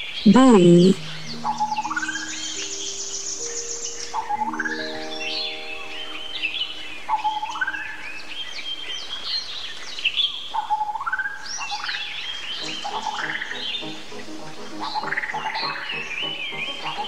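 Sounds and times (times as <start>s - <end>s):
birds singing and chirping: 0.0s - 17.0s.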